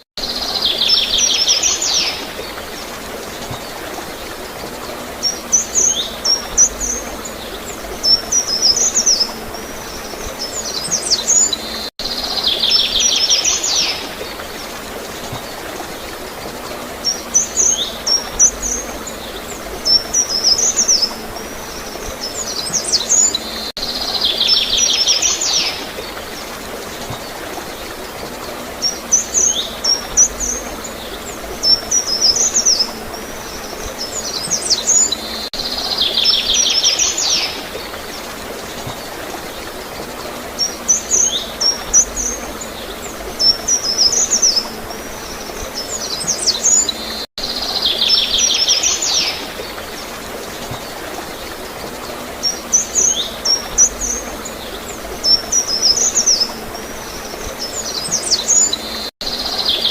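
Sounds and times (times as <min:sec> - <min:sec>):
gurgling flowing water: 0:00.0 - 0:59.9.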